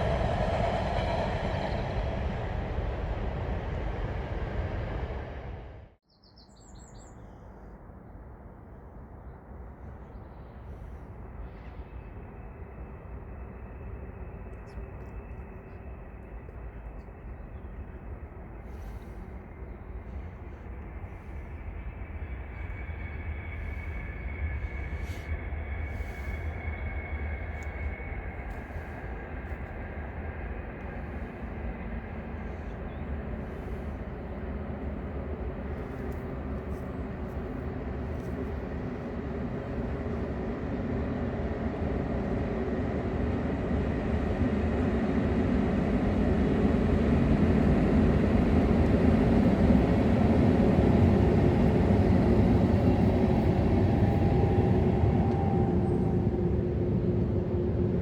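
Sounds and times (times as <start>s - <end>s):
freight train rumbling past: 0.0s - 6.0s, 10.4s - 58.0s.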